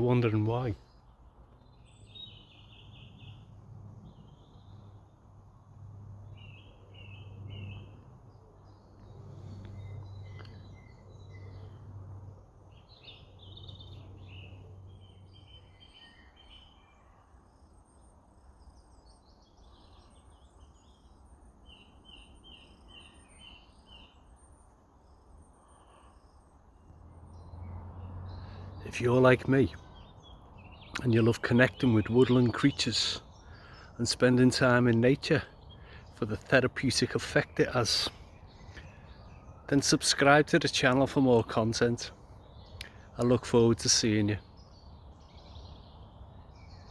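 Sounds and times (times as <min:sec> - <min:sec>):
small birds chirping and twittering: 0:00.0 - 0:46.9.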